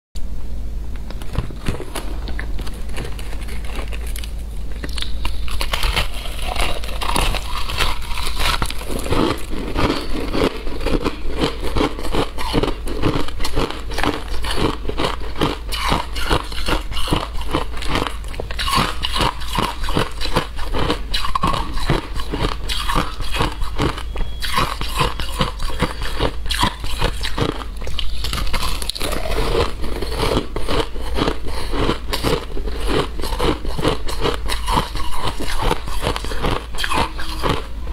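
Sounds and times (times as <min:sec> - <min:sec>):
steady low hum: 0:00.2 - 0:37.9
ice crunching between teeth: 0:01.4 - 0:37.7.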